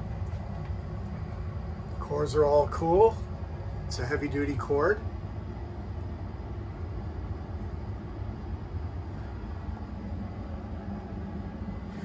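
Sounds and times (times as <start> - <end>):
furnace blower fan humming: 0.0 - 12.0.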